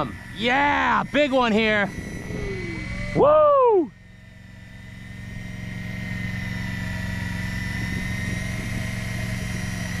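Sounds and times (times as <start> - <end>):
fishing reel motor whining: 0.0 - 10.0
low steady hum: 0.0 - 10.0.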